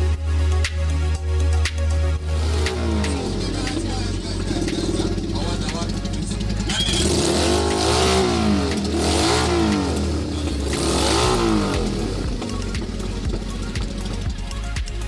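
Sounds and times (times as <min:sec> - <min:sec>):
steady low hum: 0:02.2 - 0:14.6
motorcycle engine revving: 0:02.2 - 0:15.0.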